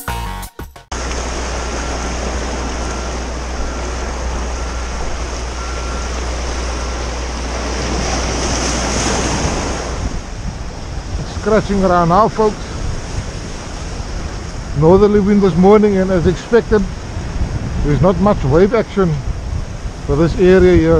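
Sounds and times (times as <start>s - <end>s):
surf breaking over rocks: 0.9s - 20.9s
wind rumbling on microphone: 0.9s - 20.9s.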